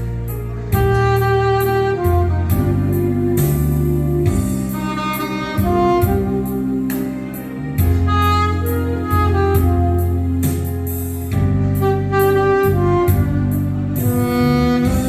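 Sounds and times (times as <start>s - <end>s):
saxophone melody with beat: 0.0s - 15.0s.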